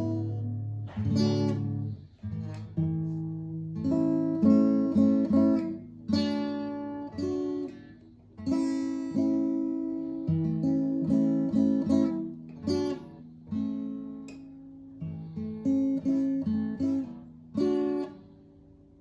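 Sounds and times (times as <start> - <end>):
plucked guitar notes: 0.0 - 18.3
acoustic guitar strumming chords: 0.0 - 18.4.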